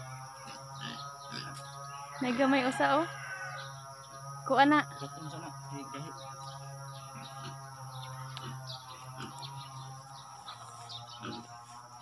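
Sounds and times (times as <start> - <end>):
birds chirping: 0.0 - 12.0
insect drone: 0.0 - 12.0
low steady hum: 0.0 - 12.0.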